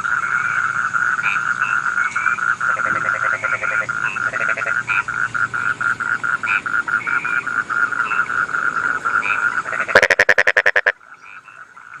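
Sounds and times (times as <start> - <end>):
chorus of frogs pulsing: 0.0 - 12.0
frog rapid rattle: 0.0 - 12.0.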